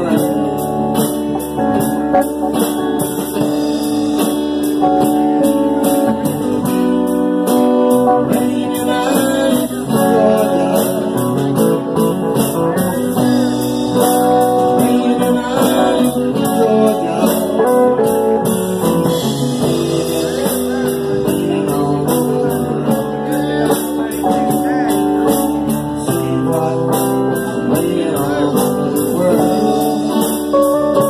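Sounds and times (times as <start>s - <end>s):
live band with electric guitars: 0.0s - 31.0s.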